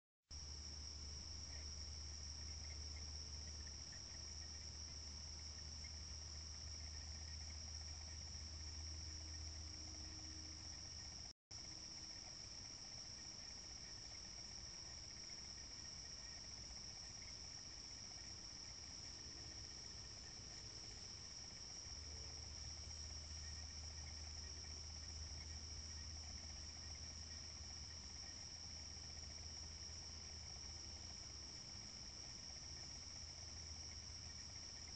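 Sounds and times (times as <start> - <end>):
crickets chirring: 0.4 - 34.9.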